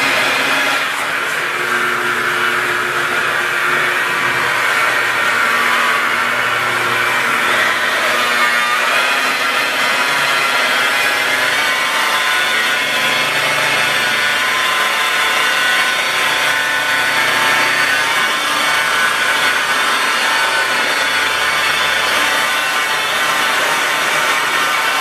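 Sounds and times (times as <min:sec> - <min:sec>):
polisher motor whine: 0:00.0 - 0:25.0.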